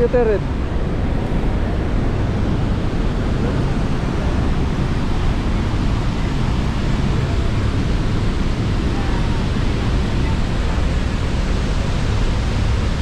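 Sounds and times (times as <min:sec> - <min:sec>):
waterfall roaring: 0:00.0 - 0:13.0
wind on microphone: 0:00.0 - 0:13.0.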